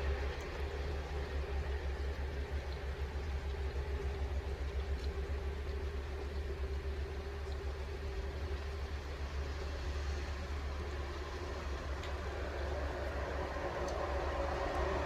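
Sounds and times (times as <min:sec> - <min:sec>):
faint drip ticks: 0:00.0 - 0:15.0
steady rain hiss: 0:00.0 - 0:15.0.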